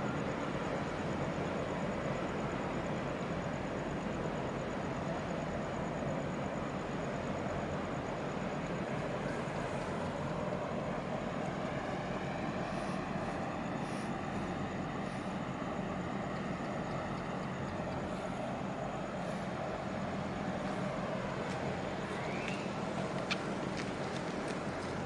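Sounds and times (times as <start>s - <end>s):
tugboat diesel rumble: 0.0s - 25.0s.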